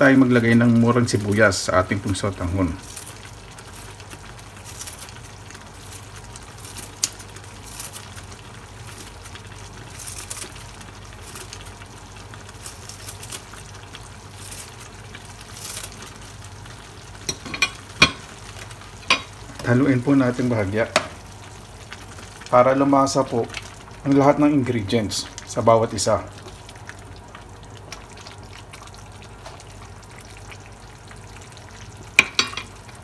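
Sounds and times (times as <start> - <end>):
soup simmering in a pot: 0.0 - 33.0.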